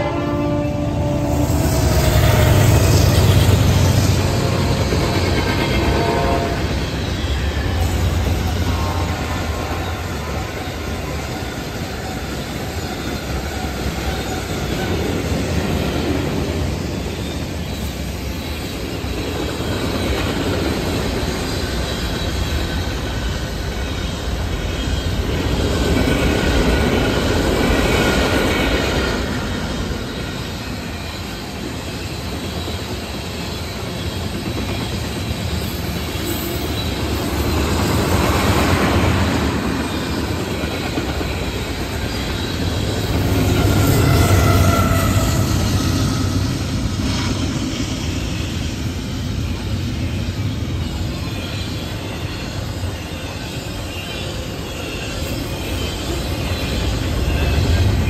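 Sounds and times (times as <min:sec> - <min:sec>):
train cars rumbling on rails: 0:00.0 - 0:58.0
train wheel squeal: 0:00.0 - 0:58.0.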